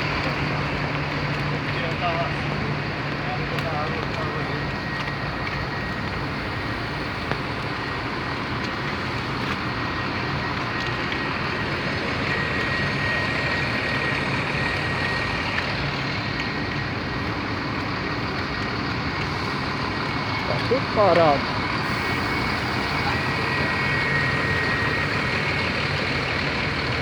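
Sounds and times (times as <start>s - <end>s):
car engines idling: 0.0s - 27.0s
rain hiss: 4.8s - 27.0s.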